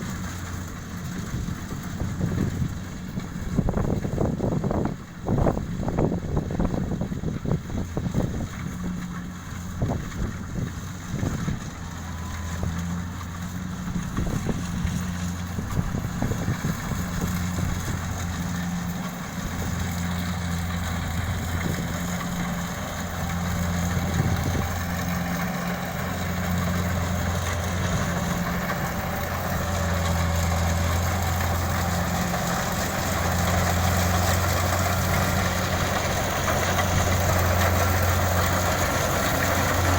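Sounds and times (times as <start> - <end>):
diesel engine humming: 0.0 - 39.9
wind buffeting microphone: 1.1 - 39.9.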